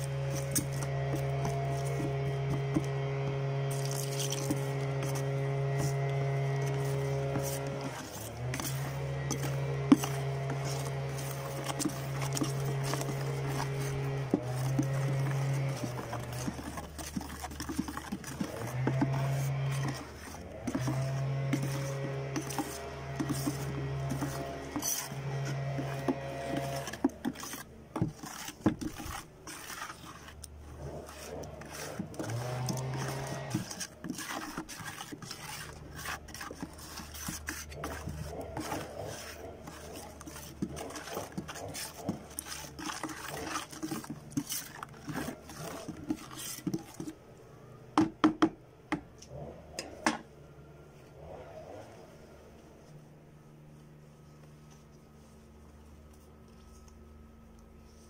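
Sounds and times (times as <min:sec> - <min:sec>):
wet cloth rubbing in cement: 0:00.0 - 0:47.2.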